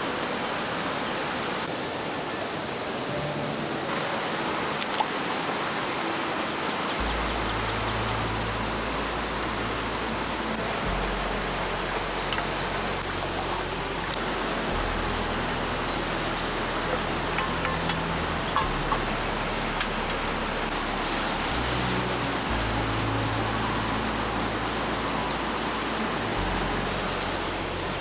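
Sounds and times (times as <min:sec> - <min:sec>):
rushing mountain stream: 0:00.0 - 0:28.0.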